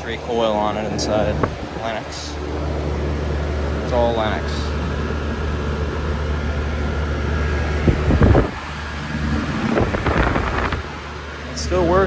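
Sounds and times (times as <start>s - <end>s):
air conditioner unit humming: 0.0s - 12.0s
rumbling noise bursts: 0.0s - 12.0s.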